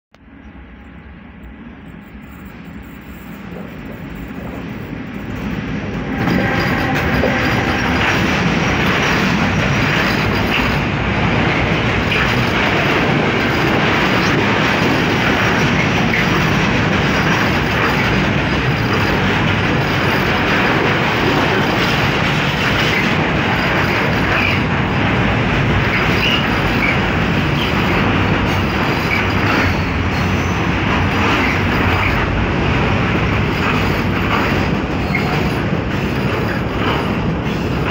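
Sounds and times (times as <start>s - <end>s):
freight train passing: 0.2s - 37.9s.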